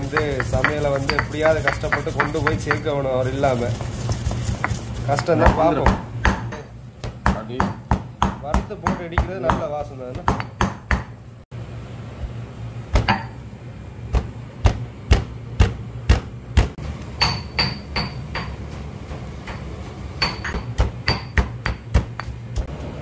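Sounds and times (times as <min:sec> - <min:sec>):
pestle pounding seeds in mortar: 0:00.0 - 0:11.2, 0:14.0 - 0:22.7.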